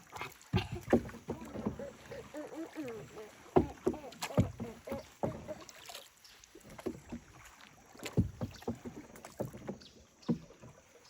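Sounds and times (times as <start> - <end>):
canoe paddle splashing in water: 0.0 - 11.0.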